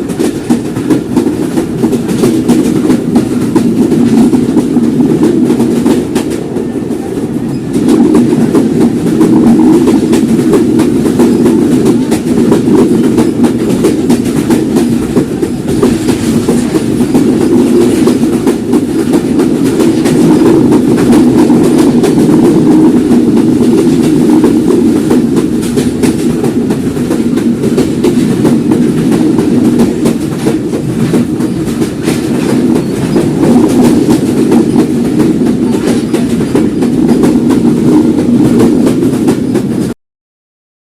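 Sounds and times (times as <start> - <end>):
wheels clacking over rail joints: 0.0 - 39.9
train wheels rumbling on track: 0.0 - 40.0.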